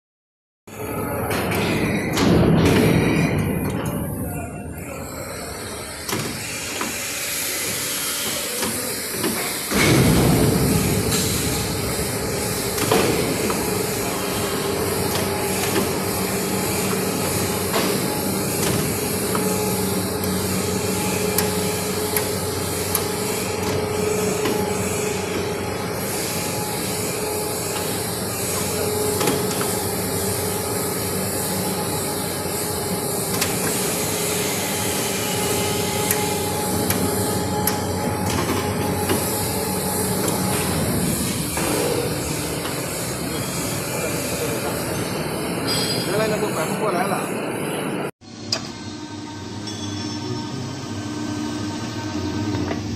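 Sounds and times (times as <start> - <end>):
pipe bending machine humming: 0.7 - 52.9.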